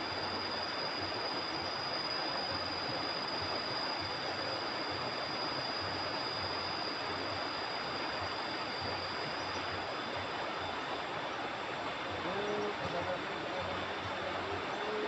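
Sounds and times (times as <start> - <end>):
faint high-pitched whine: 0.0 - 15.0
river water rushing: 0.0 - 15.0.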